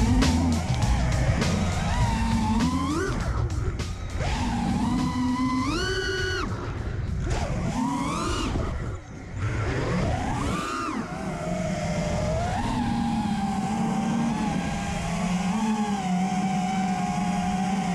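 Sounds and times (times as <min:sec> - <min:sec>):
drone motors whining: 0:00.0 - 0:17.9.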